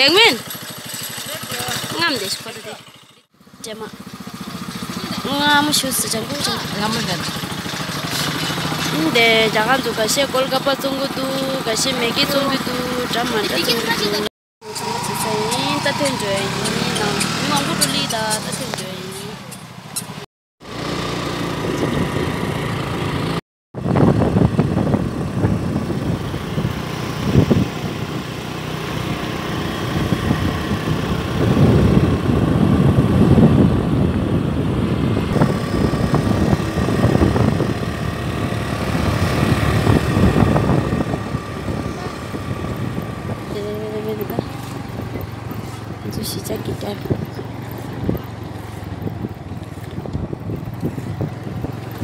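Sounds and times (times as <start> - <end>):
vehicle engine rumble: 0.0 - 52.0.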